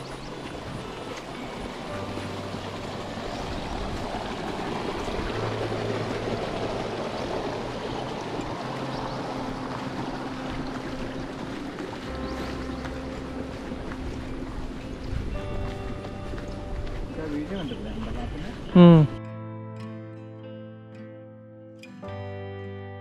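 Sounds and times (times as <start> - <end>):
steady rushing noise: 0.0 - 18.6
low background music notes: 0.0 - 23.0.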